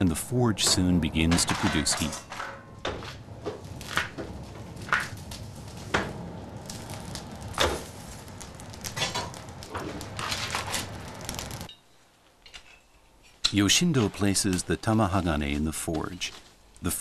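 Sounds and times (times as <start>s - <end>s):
charcoal fire crackling and popping: 0.0s - 17.0s
low noise of flames: 0.0s - 17.0s.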